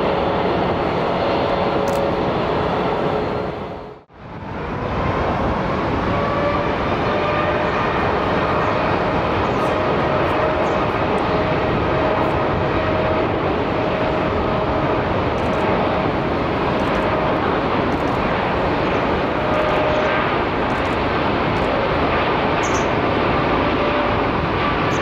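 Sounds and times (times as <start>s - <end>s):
faint jet engine whine: 0.0s - 25.0s
jet engines roaring: 0.0s - 25.0s.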